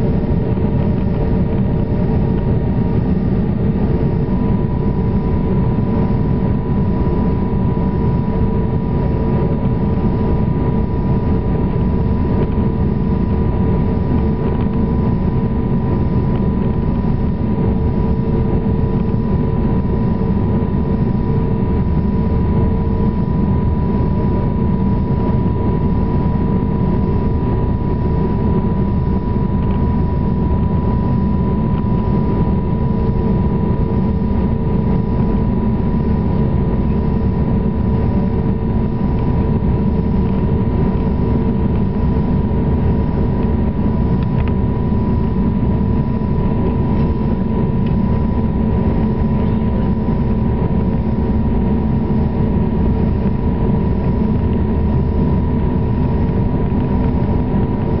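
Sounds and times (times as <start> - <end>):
engine and airflow rumble: 0.0 - 58.0
high whine: 0.0 - 58.0
low hum: 0.0 - 58.0.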